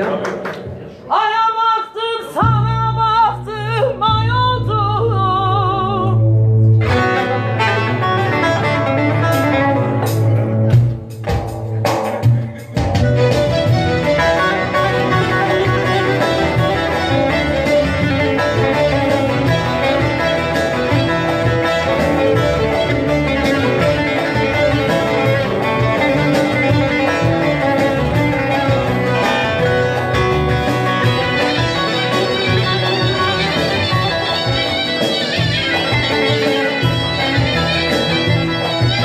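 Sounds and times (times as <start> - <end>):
plucked string instrument: 2.3 - 39.0.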